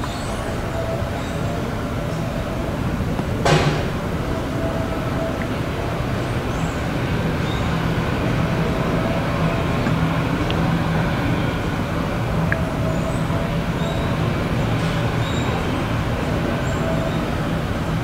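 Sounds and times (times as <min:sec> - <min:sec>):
jet engine drone: 0:00.0 - 0:18.0.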